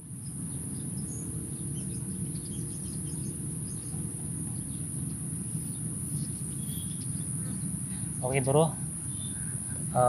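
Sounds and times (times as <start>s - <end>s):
insects droning: 0.0s - 10.0s
low background rumble: 0.0s - 10.0s
bird chirps: 0.2s - 8.4s, 9.0s - 9.8s.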